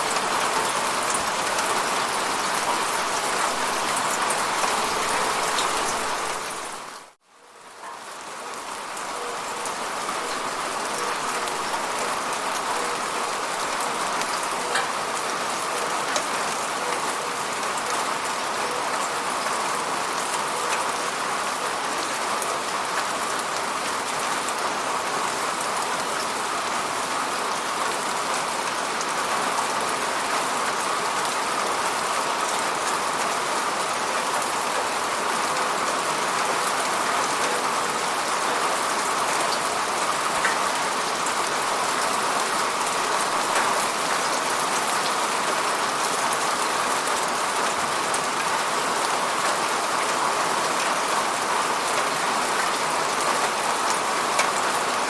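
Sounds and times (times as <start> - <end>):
steady falling rain: 0.0 - 55.0.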